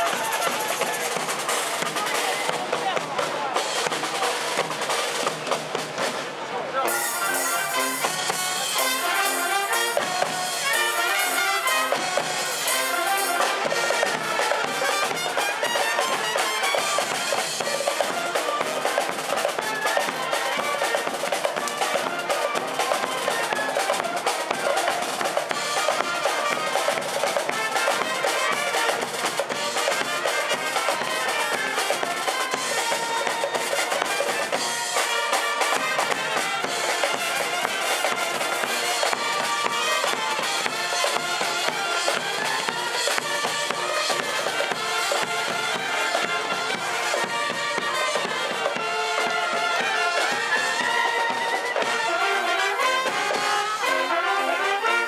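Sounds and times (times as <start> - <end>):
street brass band playing: 0.0 - 55.0.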